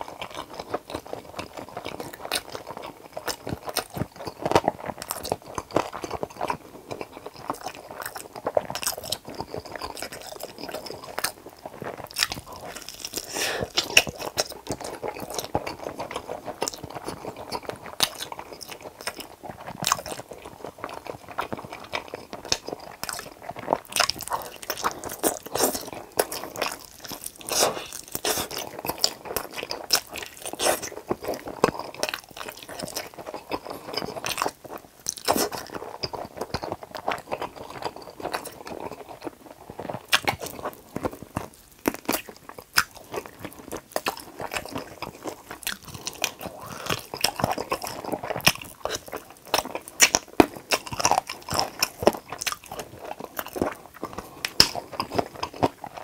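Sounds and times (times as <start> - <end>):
crunchy bites of fried chicken: 0.0 - 56.0
wet sticky chewing: 0.0 - 56.0.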